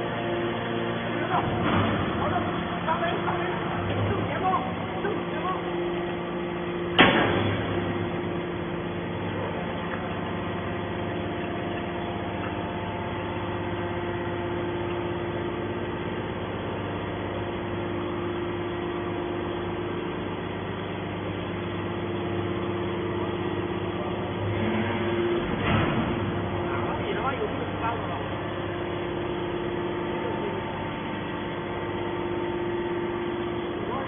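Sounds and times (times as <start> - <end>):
hydraulic baler press humming: 0.0 - 34.0.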